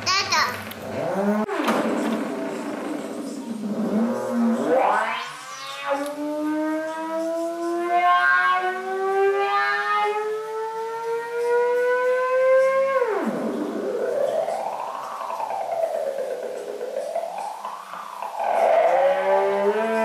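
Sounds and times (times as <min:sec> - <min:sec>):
synthesizer tone gliding in pitch: 0:00.8 - 0:20.0.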